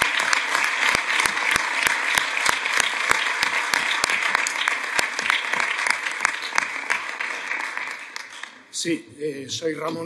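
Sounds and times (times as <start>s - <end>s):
person clapping nearby: 0.0s - 8.6s
audience applauding: 0.0s - 8.8s.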